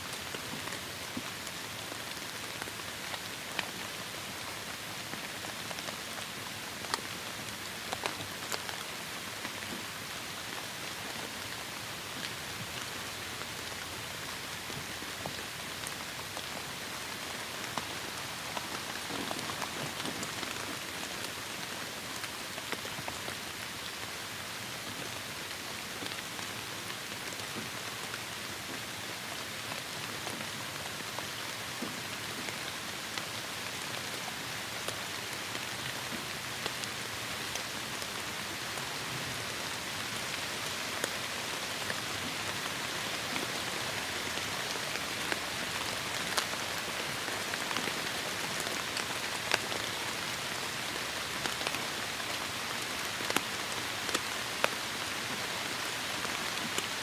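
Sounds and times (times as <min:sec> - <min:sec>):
heavy rain on a surface: 0:00.0 - 0:57.0.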